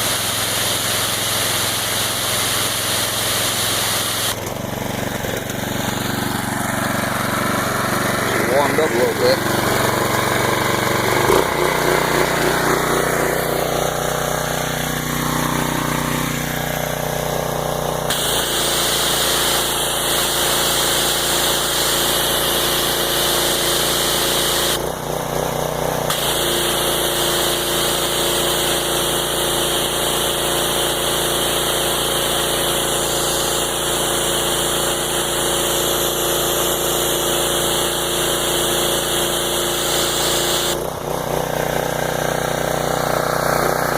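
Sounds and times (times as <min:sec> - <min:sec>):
pressure washer engine running: 0:00.0 - 0:43.9.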